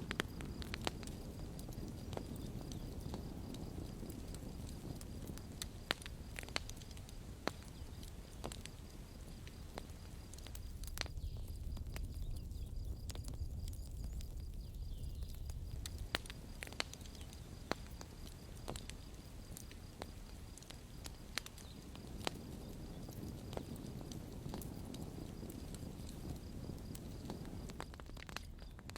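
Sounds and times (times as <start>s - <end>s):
campfire crackling: 0.0s - 28.9s
low rumble of burning fire: 0.0s - 28.9s.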